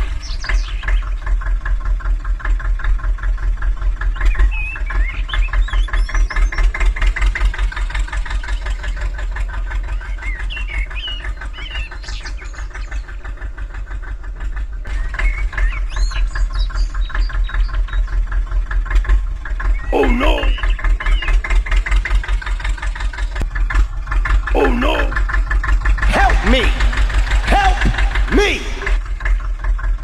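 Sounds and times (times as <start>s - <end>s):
small engine chugging: 0.0s - 30.0s.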